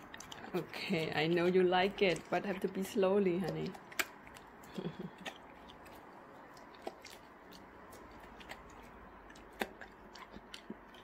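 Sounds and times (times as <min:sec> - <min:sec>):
dog chewing a treat: 0:00.0 - 0:11.0.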